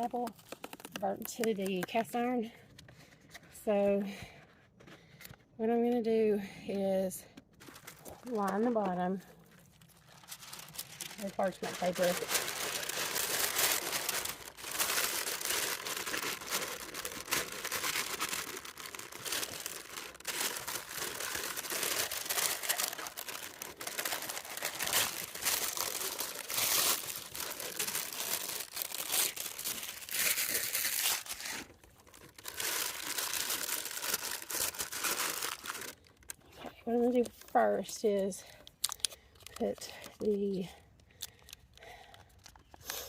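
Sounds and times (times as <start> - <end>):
parchment paper crinkling: 0.0 - 3.6, 7.4 - 43.0.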